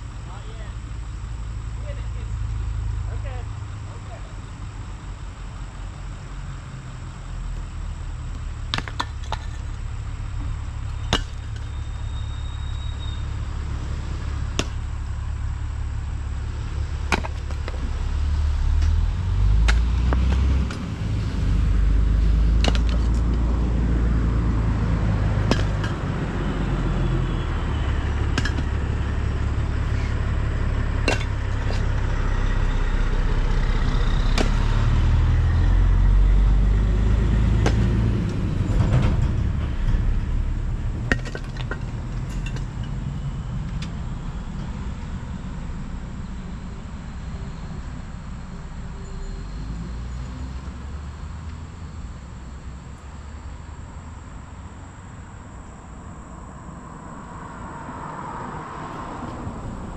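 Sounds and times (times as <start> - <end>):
heavy machine engine rumbling: 0.0 - 57.2.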